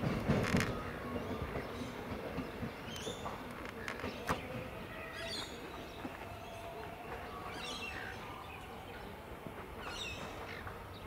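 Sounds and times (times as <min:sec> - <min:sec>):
distant train rumble: 0:00.0 - 0:11.0
birds chirping: 0:00.7 - 0:11.0.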